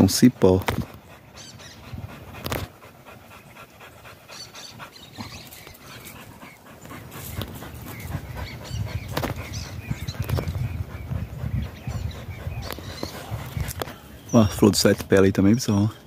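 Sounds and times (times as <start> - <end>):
dog panting: 0.0 - 15.2.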